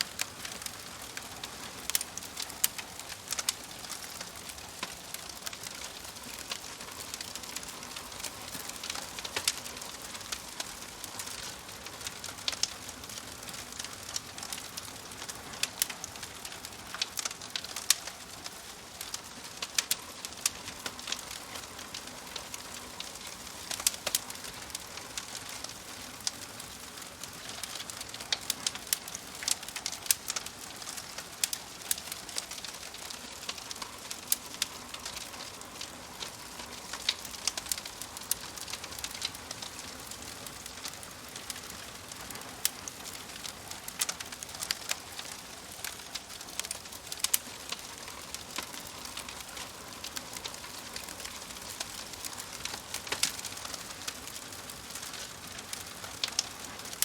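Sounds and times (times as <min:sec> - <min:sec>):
steady low hiss: 0:00.0 - 0:57.0
wood fire crackling: 0:00.0 - 0:57.0.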